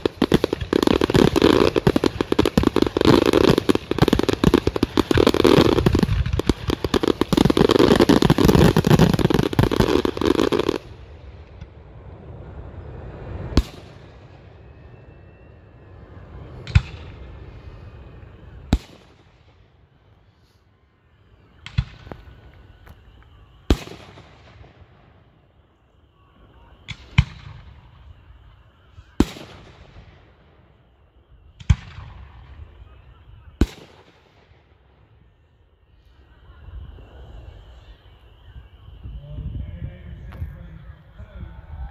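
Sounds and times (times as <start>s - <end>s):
fireworks crackling and booming: 0.0s - 41.9s.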